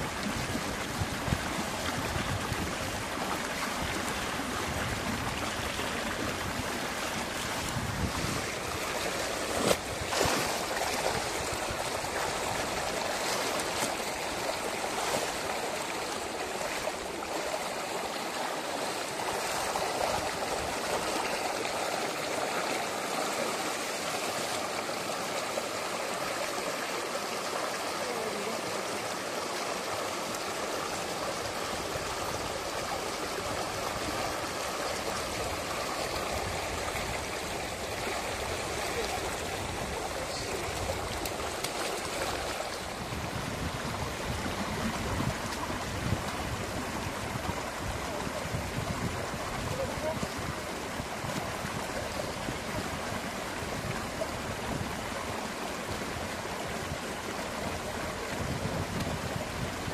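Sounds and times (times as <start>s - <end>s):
running stream water: 0.0s - 59.9s.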